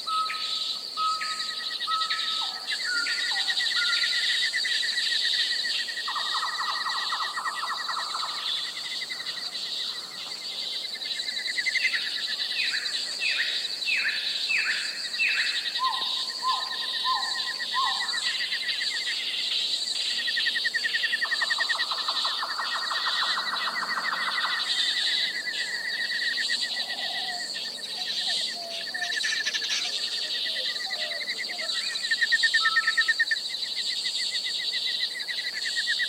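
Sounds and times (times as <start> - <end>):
insects chirring and trilling: 0.0 - 36.0.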